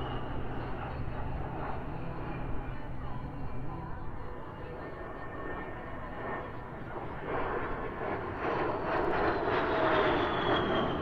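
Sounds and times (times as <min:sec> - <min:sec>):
military aircraft flying past: 0:00.0 - 0:11.0.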